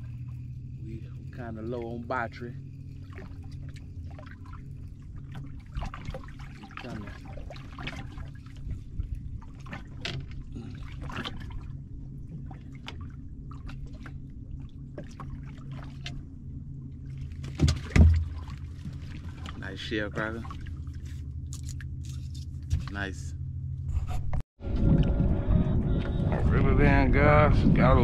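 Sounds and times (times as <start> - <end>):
water splashing and trickling: 0.0 - 23.3
steady low hum: 0.0 - 28.0.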